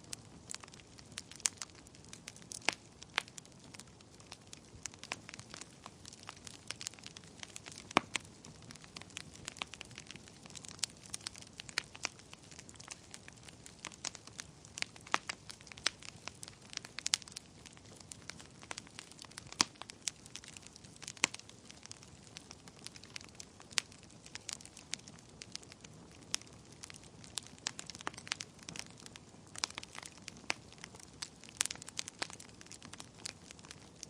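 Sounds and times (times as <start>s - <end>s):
fire crackling in a fireplace: 0.0s - 34.0s.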